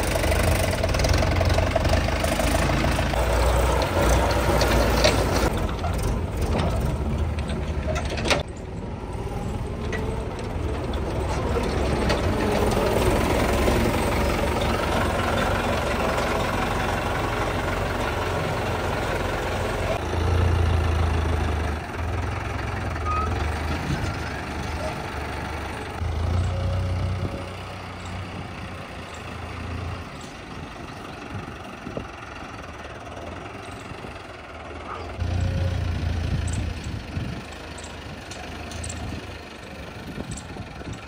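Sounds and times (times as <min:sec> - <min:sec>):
tractor diesel engines running: 0:00.0 - 0:41.0.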